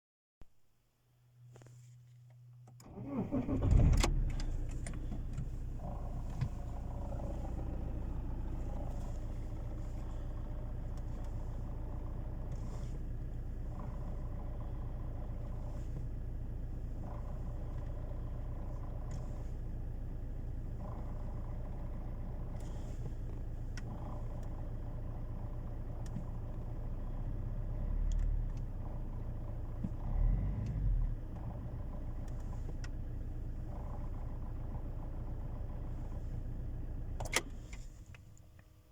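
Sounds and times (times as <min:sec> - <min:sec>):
car engine cranking and idling: 0:01.4 - 0:38.9.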